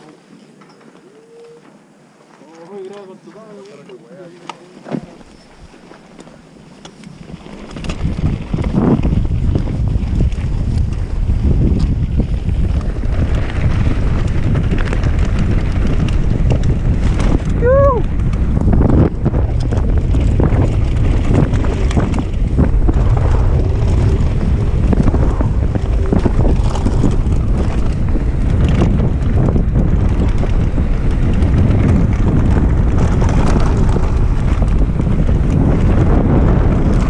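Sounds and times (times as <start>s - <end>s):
bike knocks and rattles: 7.0s - 37.0s
wind buffeting microphone: 7.1s - 37.0s.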